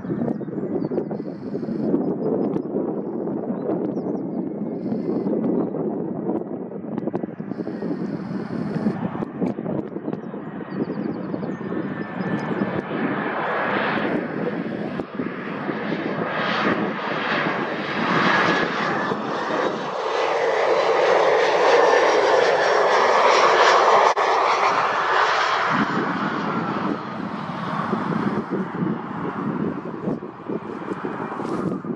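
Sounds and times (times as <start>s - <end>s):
jet passing low overhead: 0.0s - 31.9s.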